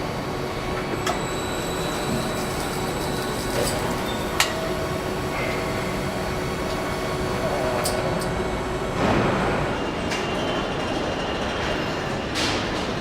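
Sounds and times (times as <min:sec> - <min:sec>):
machinery hum and whir: 0:00.0 - 0:13.0.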